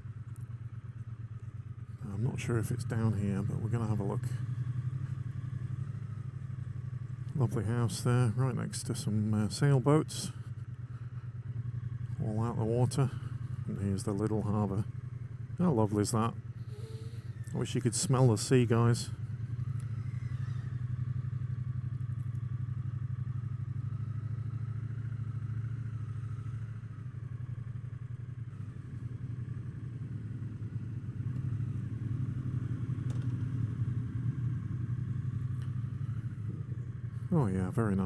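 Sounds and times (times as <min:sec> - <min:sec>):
motorcycle engine running at low revs: 0:00.0 - 0:38.0.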